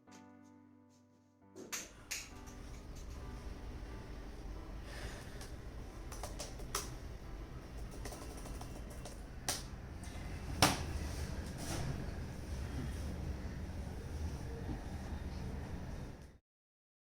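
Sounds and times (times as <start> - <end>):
low steady hum: 1.9 - 16.4.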